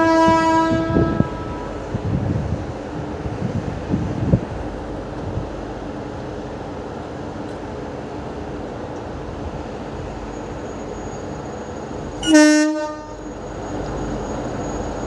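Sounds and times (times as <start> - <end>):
electric locomotive humming: 0.0 - 15.0.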